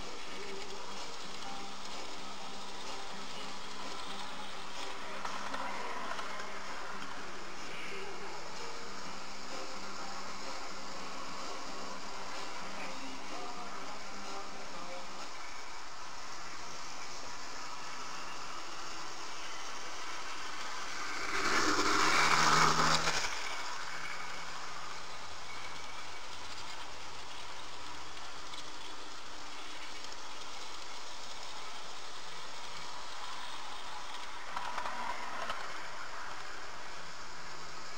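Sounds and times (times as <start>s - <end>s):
model train whirring on track: 0.0s - 37.9s.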